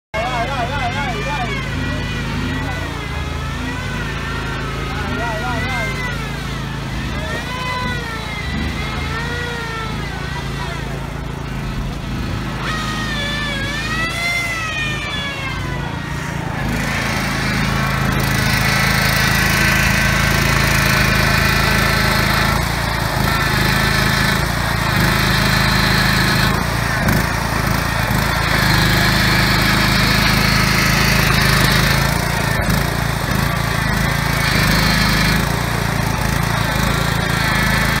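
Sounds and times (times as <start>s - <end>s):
mower engine running under load: 0.1s - 38.0s.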